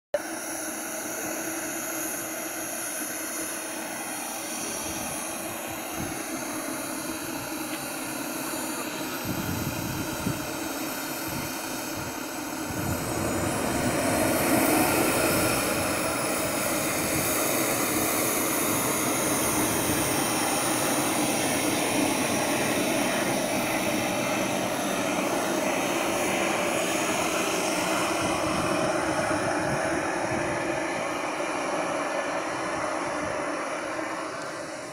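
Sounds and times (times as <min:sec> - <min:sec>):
jet turbine engine whine: 0:00.1 - 0:34.9.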